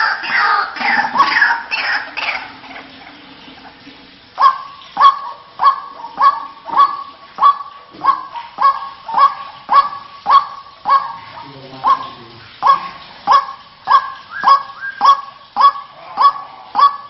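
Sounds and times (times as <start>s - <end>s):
waterhen calls: 0.0s - 17.0s.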